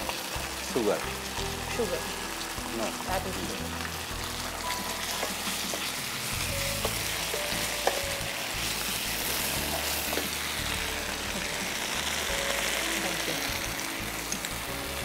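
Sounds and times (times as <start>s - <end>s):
chicken sizzling in frying pan: 0.0s - 15.0s.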